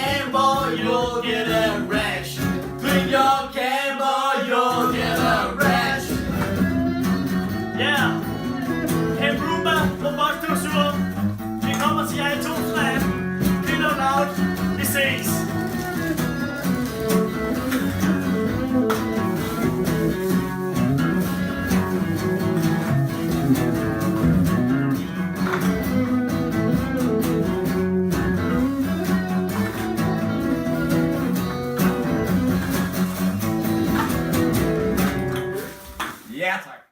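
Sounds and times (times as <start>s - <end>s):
instrumental guitar band music: 0.0s - 3.6s, 4.5s - 36.3s.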